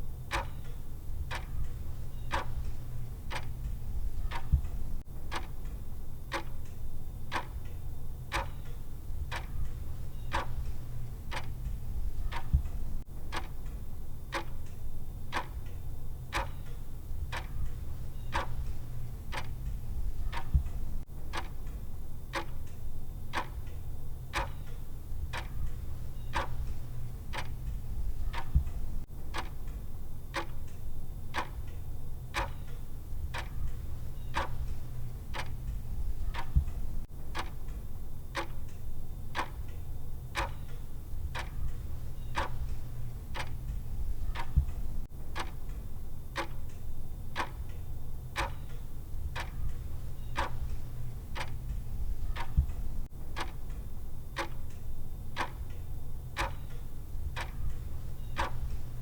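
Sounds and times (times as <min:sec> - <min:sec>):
clock ticking: 0:00.0 - 0:59.0
steady low hum: 0:00.0 - 0:59.0.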